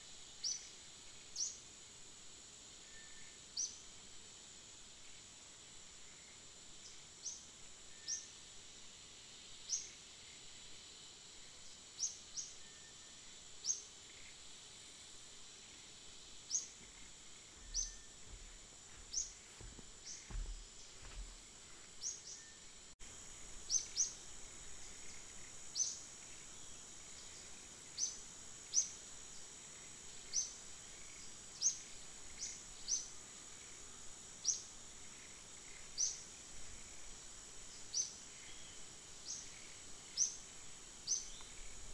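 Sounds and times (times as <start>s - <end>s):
high-pitched insect drone: 4.9s - 41.9s.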